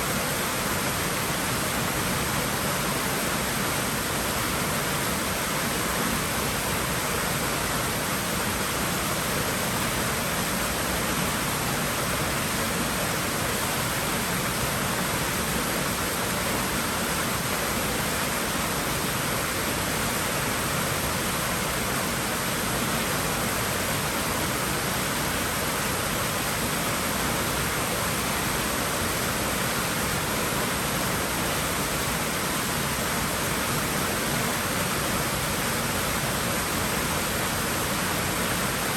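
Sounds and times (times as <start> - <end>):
water running in a pool: 0.0 - 38.9.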